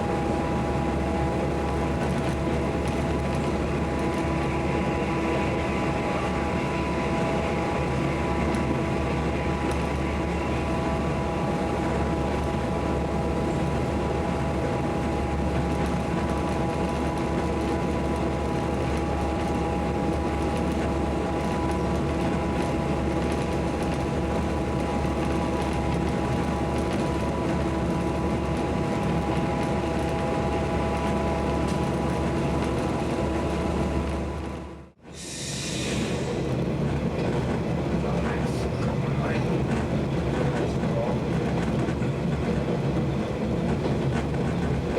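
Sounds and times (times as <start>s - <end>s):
diesel railcar engine drone: 0.0s - 44.9s
wheels rumbling on rail: 0.0s - 44.9s.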